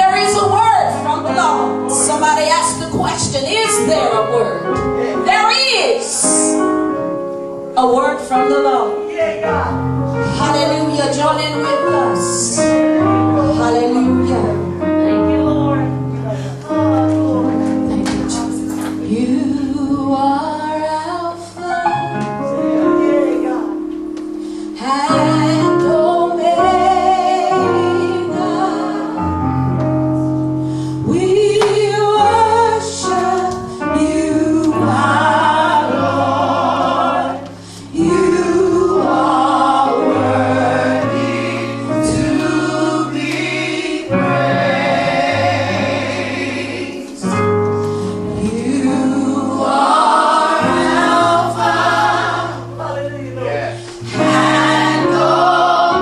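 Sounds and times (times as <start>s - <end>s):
gospel choir singing: 0.0s - 7.2s, 7.8s - 56.0s
bass notes: 0.0s - 56.0s
instrumental backing: 0.0s - 56.0s.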